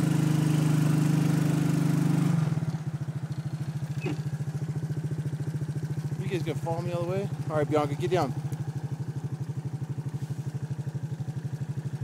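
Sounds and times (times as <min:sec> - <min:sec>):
quad engine running: 0:00.0 - 0:12.0.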